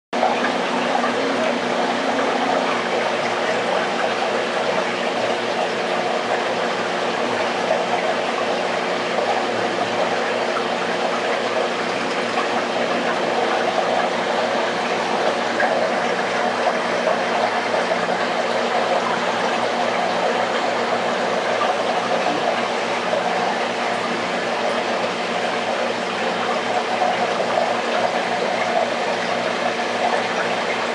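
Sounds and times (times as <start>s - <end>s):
aquarium water circulating: 0.1s - 30.9s
low constant pump hum: 0.1s - 30.9s.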